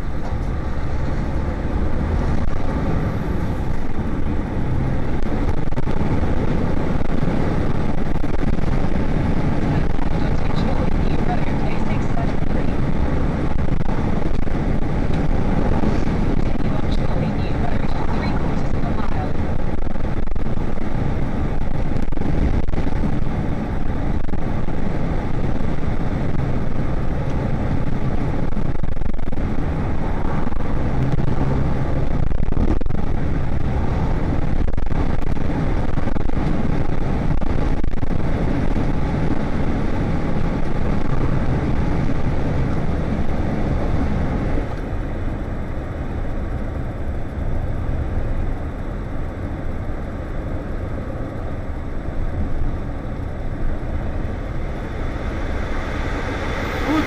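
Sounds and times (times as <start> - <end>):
road and wind noise: 0.0 - 57.0
truck engine rumble: 0.0 - 57.0.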